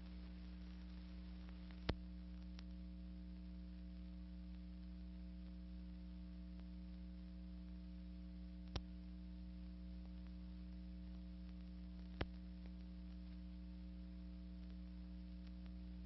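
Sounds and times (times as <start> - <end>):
electrical hum: 0.0 - 16.0
faint hiss: 0.0 - 16.0.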